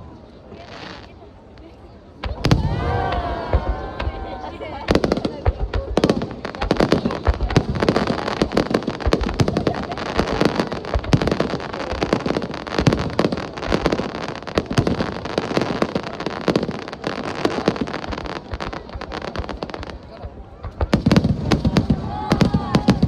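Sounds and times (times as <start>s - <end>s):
fireworks crackling and banging: 0.4s - 23.0s.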